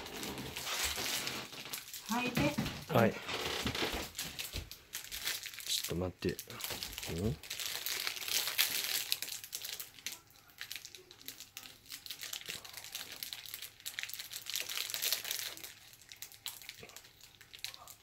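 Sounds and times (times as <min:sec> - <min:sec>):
packaging crinkling and rustling: 0:00.0 - 0:18.0.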